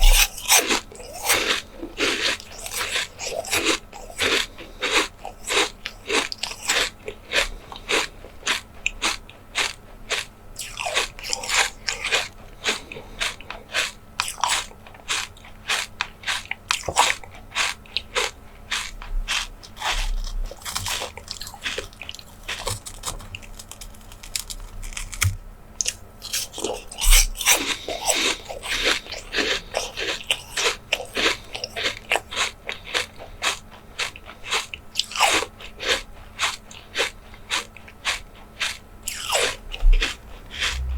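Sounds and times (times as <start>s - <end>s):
crunchy food chewing: 0.0s - 40.9s.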